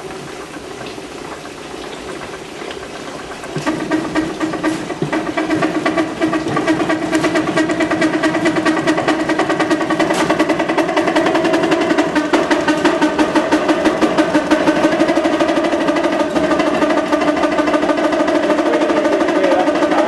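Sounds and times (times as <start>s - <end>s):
spin dryer humming and pulsing: 0.0s - 20.0s.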